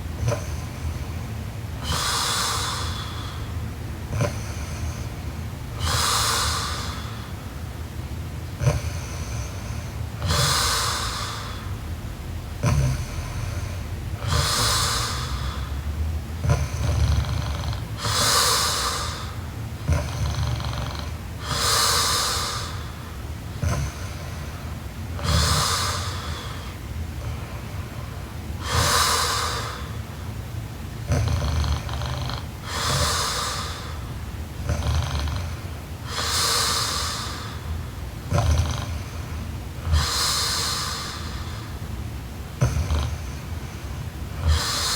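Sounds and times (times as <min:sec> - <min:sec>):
woman snoring: 0:01.8 - 0:07.4, 0:08.6 - 0:11.9, 0:12.6 - 0:24.6, 0:25.2 - 0:30.1, 0:31.0 - 0:41.7, 0:42.6 - 0:43.6, 0:44.3 - 0:44.9.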